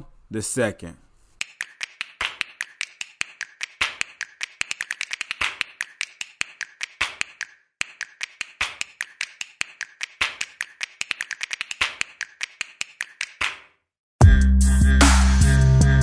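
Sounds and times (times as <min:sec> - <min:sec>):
percussive music: 0:01.4 - 0:13.6, 0:14.2 - 0:16.0.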